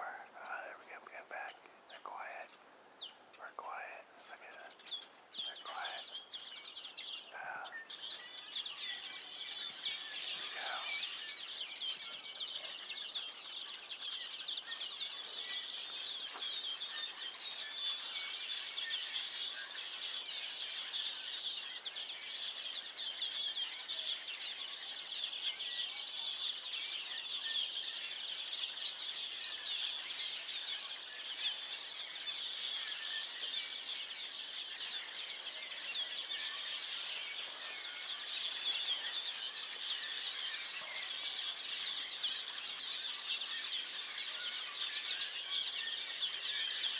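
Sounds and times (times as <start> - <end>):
flock of birds chirping: 0.0 - 46.9.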